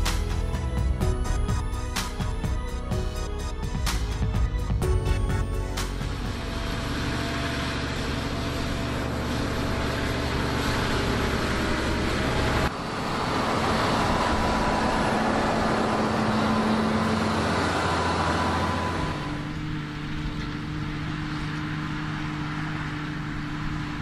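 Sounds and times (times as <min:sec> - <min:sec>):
land leveller through soil: 0:00.0 - 0:24.0
tractor engine running under load: 0:00.0 - 0:24.0.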